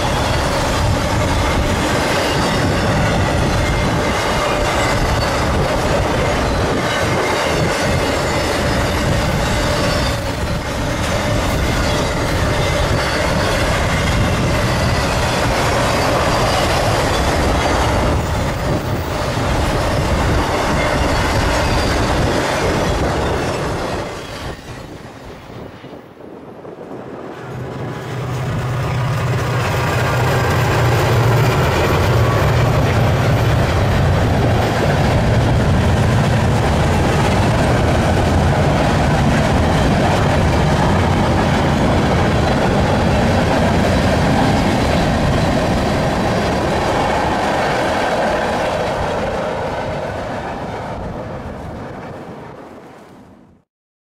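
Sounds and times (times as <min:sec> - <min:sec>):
freight train rumble and clatter: 0:00.0 - 0:53.6.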